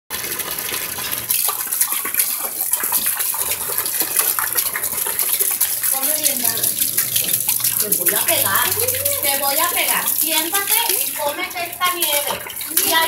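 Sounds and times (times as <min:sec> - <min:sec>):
hose water splashing into pool: 0:00.1 - 0:13.0.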